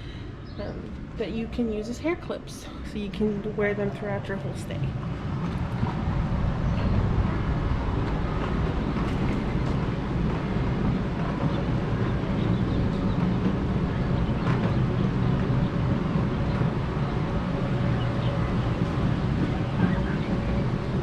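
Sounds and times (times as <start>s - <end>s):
steady low rumbling noise: 0.0s - 21.0s.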